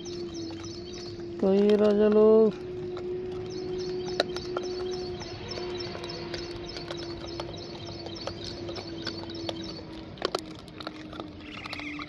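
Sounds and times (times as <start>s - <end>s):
monkey crunching dry kernels: 0.0s - 12.0s.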